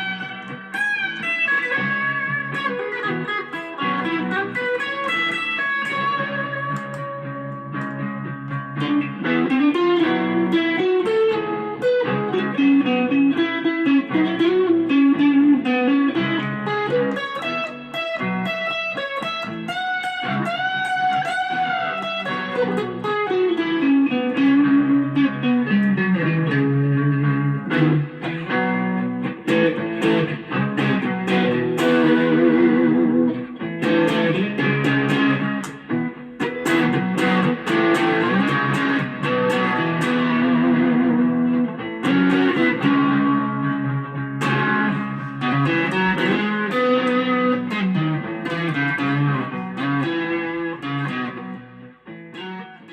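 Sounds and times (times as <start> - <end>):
clean electric guitar playing: 0.0 - 52.9.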